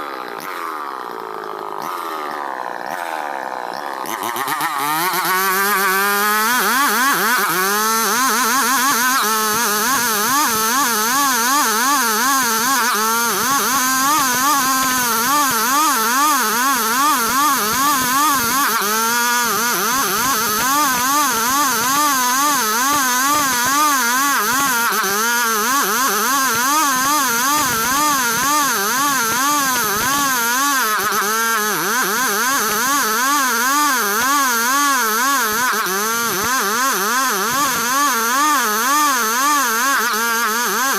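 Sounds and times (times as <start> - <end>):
wood saw engine cutting wood: 0.0 - 40.9.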